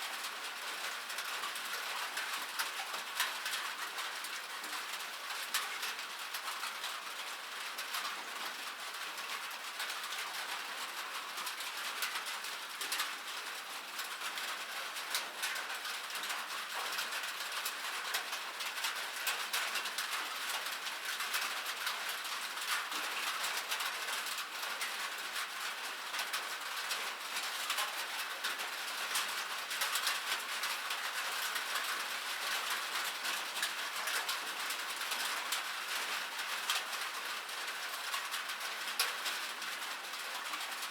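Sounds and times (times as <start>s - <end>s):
rain on metal surface: 0.0s - 40.9s.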